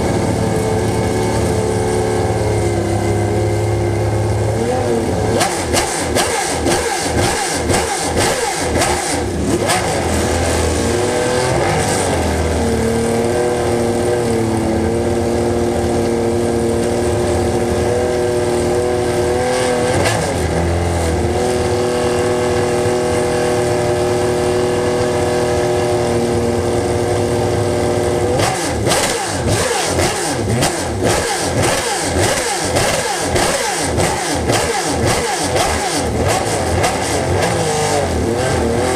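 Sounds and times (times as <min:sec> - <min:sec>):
engines revving: 0:00.0 - 0:38.9.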